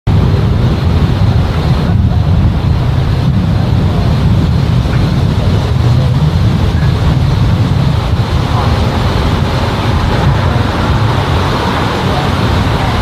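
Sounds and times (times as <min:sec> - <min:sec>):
distant helicopter: 0:00.1 - 0:13.0
wind buffeting microphone: 0:00.1 - 0:13.0.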